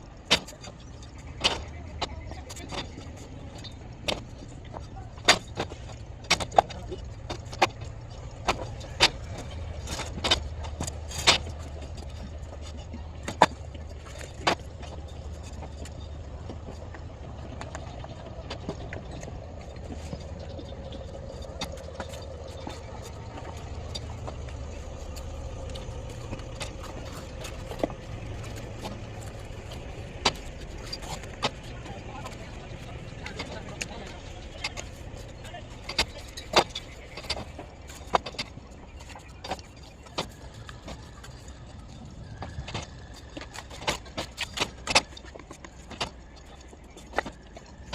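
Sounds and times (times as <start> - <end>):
steady low rumble: 0.0 - 47.9.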